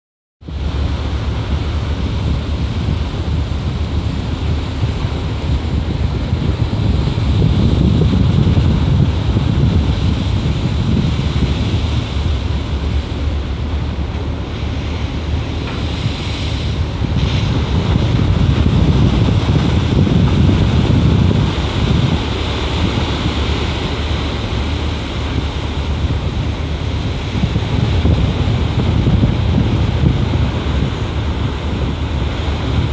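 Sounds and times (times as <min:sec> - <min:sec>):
sea rushing along ship hull: 0:00.4 - 0:32.9
wind buffeting microphone: 0:00.4 - 0:32.9.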